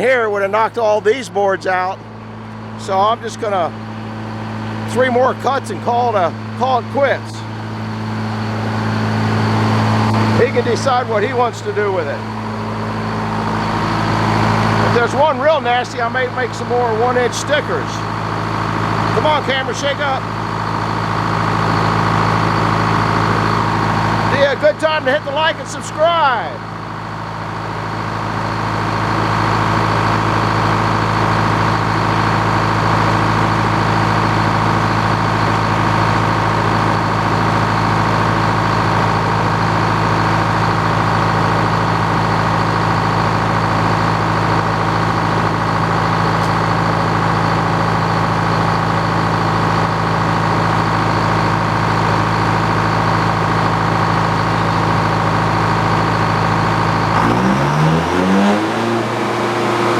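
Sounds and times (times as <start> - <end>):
circular sawmill and engine running: 0.0 - 59.9.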